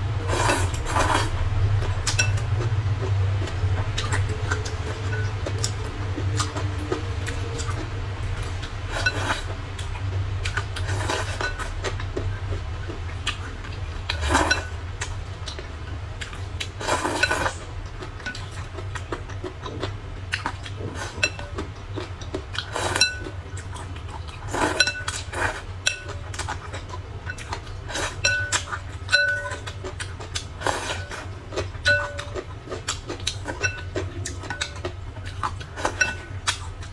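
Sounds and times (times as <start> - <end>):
steady low hum: 0.0 - 36.9
utensils clinking against dishes: 0.2 - 2.8, 3.4 - 12.0, 13.6 - 36.8.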